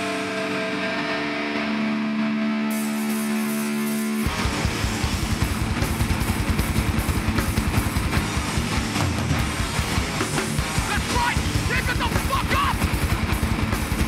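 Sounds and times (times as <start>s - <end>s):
distorted electric guitars: 0.0s - 14.0s
fast driving drums: 2.7s - 14.0s.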